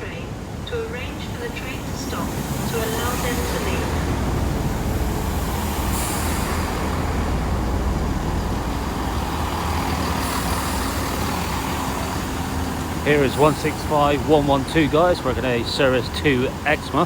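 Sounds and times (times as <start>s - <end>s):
faint hum: 0.0s - 17.0s
train engine rumble: 0.0s - 17.0s
wheel and rail noise: 0.0s - 17.0s.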